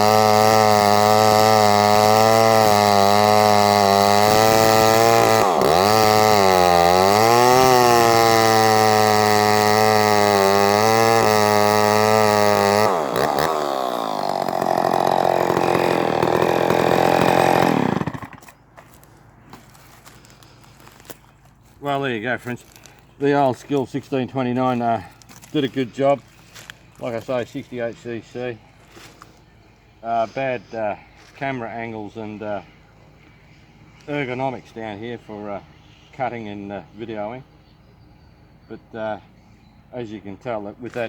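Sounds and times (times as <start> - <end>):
chainsaw cutting at high revs: 0.0 - 37.3.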